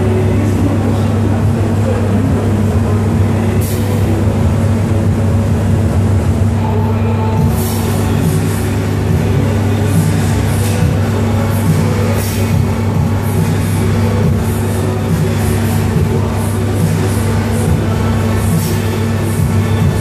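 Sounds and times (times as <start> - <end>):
loud low hum: 0.0 - 20.0.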